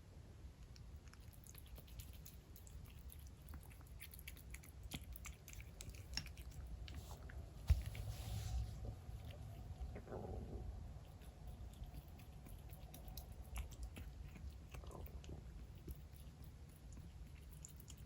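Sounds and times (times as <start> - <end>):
kitten chewing food: 0.5 - 18.0.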